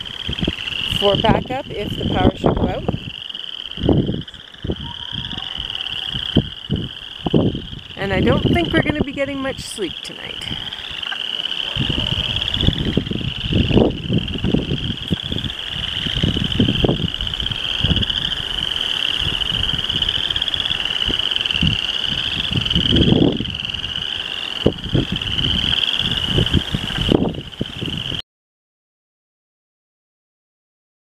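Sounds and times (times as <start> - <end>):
frogs trilling: 0.0 - 28.2
low rumbling microphone noise: 0.0 - 28.2.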